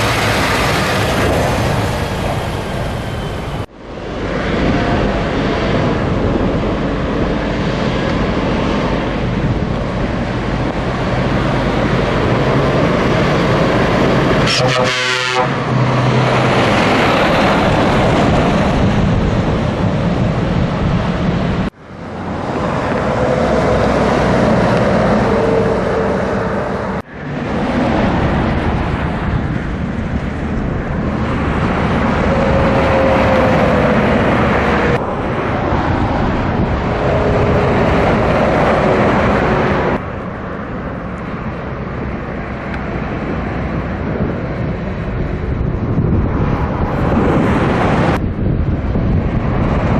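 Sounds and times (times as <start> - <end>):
truck engine and road noise: 0.0 - 49.9.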